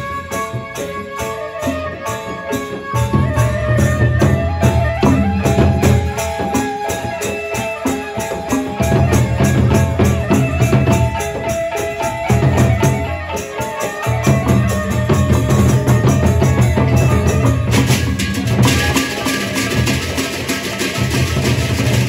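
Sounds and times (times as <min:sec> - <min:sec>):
barrel drums: 0:00.0 - 0:22.0
gongs: 0:00.0 - 0:22.0
hand cymbals clashing: 0:00.0 - 0:22.0.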